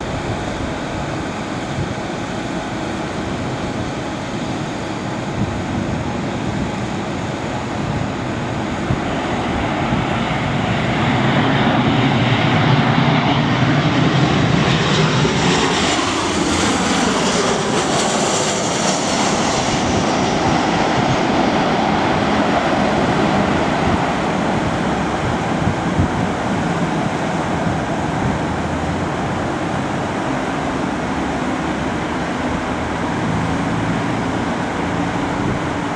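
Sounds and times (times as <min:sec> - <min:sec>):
jet airliner engines: 0:00.0 - 0:35.9.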